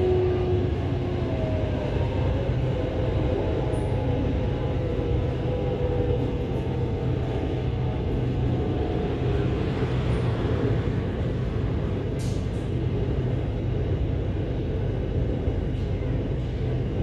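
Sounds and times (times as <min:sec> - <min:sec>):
electric train rumble and hum: 0:00.0 - 0:17.0.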